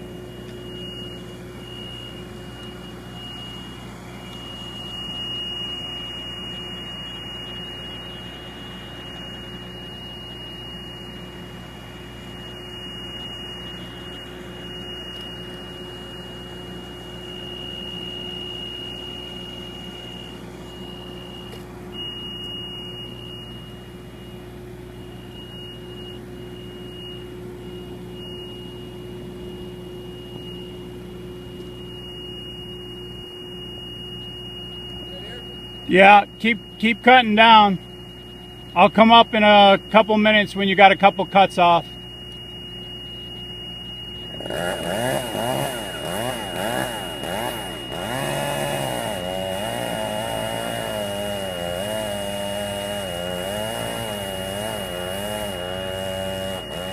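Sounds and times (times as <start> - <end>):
engine running: 0.0 - 40.0, 41.8 - 56.9
high steady whine: 0.0 - 56.9.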